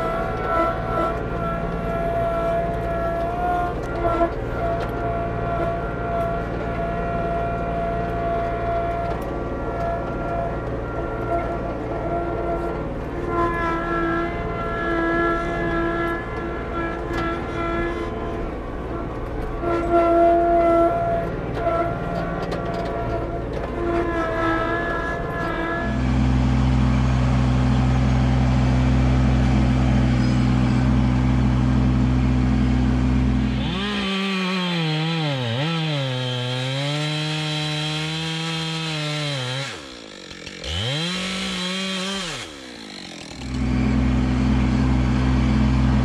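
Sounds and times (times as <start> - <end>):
tractor diesel engine running: 0.0 - 36.8, 37.6 - 46.0.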